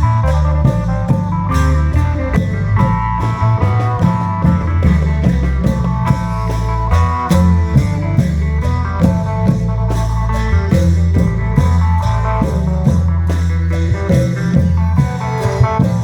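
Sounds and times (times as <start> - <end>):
amplified drum band music: 0.0 - 16.0.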